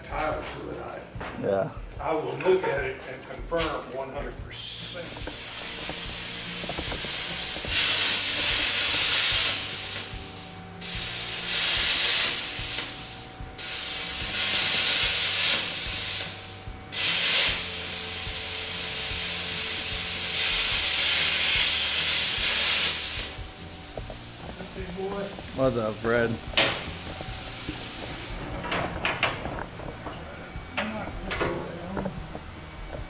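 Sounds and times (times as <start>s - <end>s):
plasma cutter hissing: 4.5s - 32.6s.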